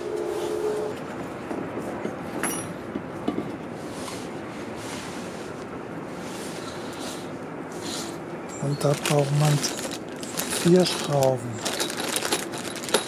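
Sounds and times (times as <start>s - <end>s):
steady background hiss: 0.0s - 12.8s.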